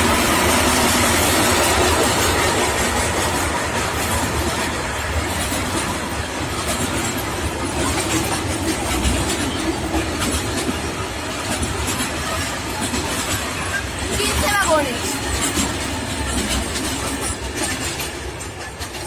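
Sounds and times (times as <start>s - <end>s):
freight train rumbling by: 0.0s - 19.0s
train wheel clicks: 0.0s - 19.0s.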